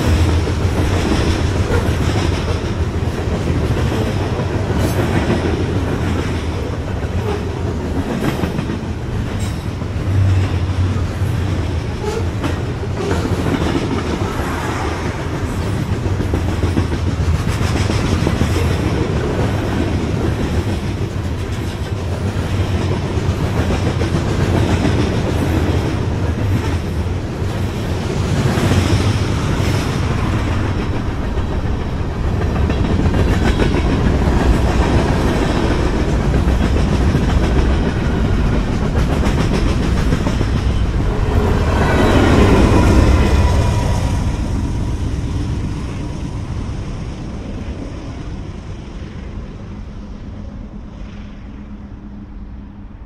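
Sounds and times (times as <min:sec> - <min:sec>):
freight train cars rolling past: 0:00.0 - 0:53.0.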